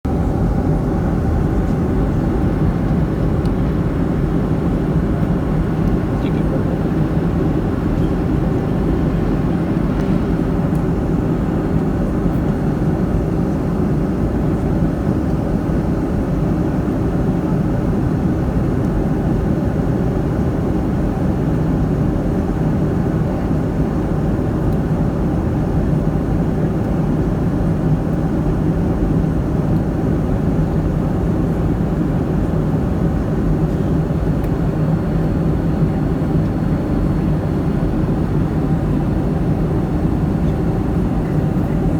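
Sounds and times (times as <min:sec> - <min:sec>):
jet engines and airflow roar: 0:00.0 - 0:41.9.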